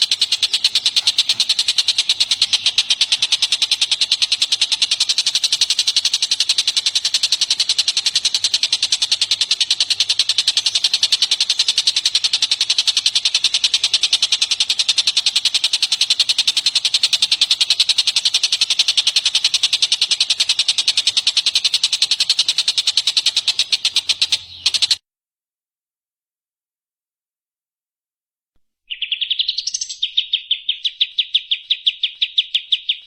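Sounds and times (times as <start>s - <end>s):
songbird trilling: 0.0s - 25.0s, 28.9s - 33.0s.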